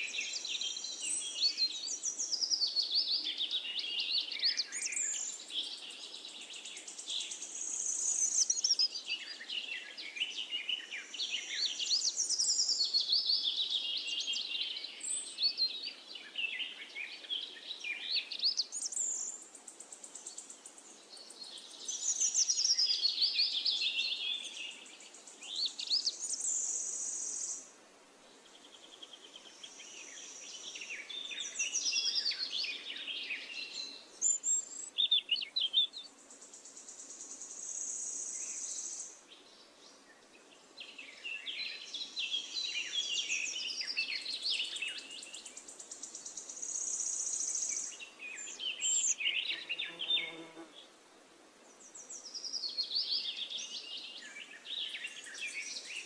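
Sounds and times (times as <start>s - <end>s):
birds singing and chirping: 0.0s - 27.6s, 28.4s - 50.7s, 51.7s - 56.0s.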